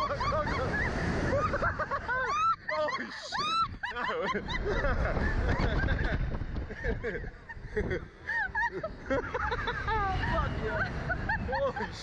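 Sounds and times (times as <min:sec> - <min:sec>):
wind rumble on microphone: 0:00.0 - 0:02.5, 0:03.4 - 0:12.0
man and woman laughing: 0:00.0 - 0:12.0.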